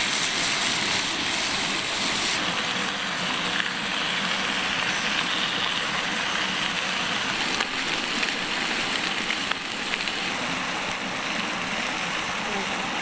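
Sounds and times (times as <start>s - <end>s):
bacon sizzling: 0.0s - 12.4s.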